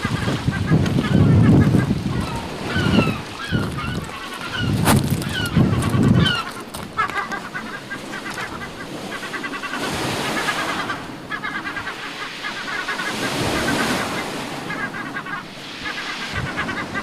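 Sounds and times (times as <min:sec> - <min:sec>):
waterbirds calling: 0:00.0 - 0:17.0.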